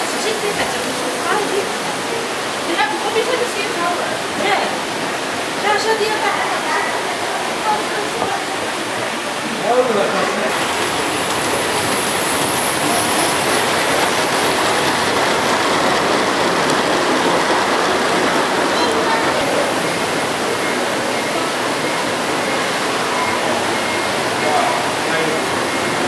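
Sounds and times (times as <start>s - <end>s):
model train running on track: 0.0s - 26.0s
steady rushing noise: 0.0s - 26.0s.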